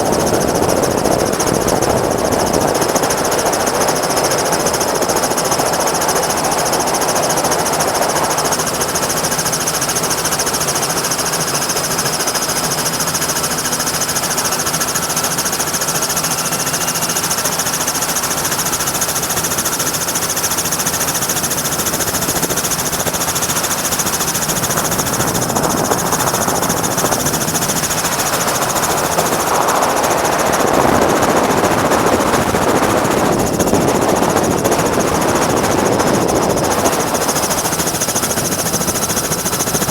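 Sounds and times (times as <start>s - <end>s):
helicopter mechanical noise: 0.0s - 39.9s
thin steady whine: 0.0s - 39.9s.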